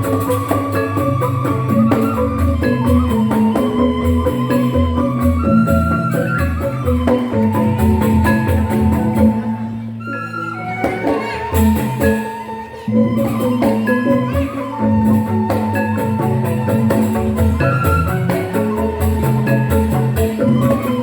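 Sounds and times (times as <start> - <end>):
low repeating beats: 0.0 - 10.0, 10.8 - 21.0
bamboo xylophones playing: 0.0 - 21.0.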